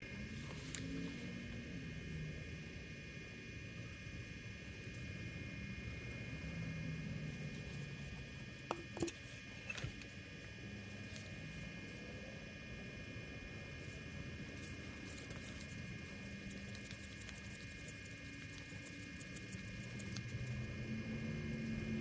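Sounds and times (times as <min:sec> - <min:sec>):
faint high hum: 0:00.0 - 0:22.0.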